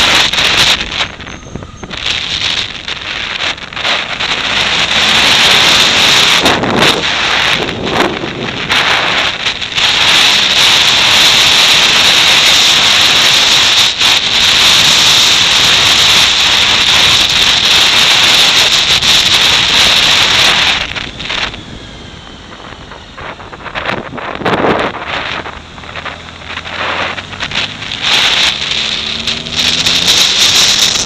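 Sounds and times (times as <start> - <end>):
motorcycle engine: 0.0 - 31.0
wind rushing over microphone: 0.0 - 31.0.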